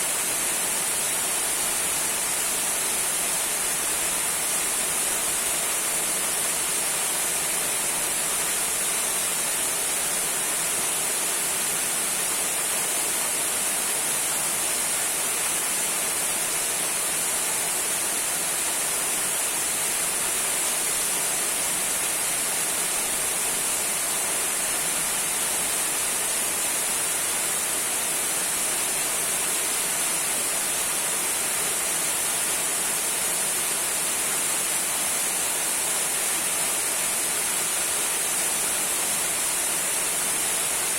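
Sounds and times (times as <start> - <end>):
small waterfall trickling: 0.0 - 40.9.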